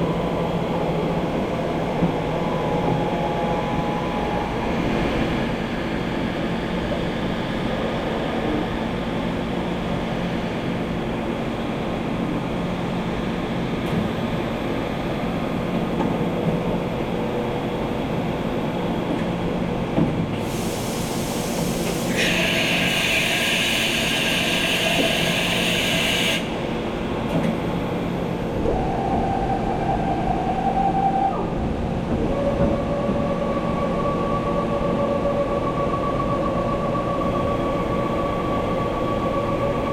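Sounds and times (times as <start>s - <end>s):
milling machine rumble and whine: 0.0s - 39.9s.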